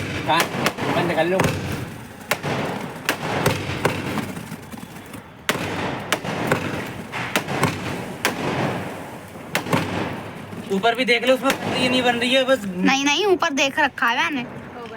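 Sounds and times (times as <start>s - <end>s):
aerial fireworks banging: 0.0s - 12.5s.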